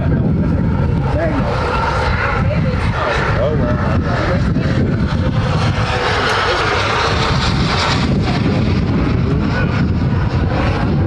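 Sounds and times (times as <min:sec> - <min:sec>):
jet turbine engine hissing: 0:00.0 - 0:11.0
wind rumble on microphone: 0:00.0 - 0:11.0.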